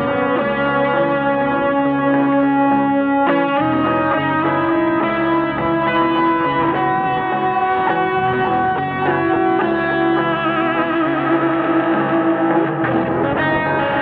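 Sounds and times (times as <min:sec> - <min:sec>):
instrumental music sustained chords: 0:00.0 - 0:14.0.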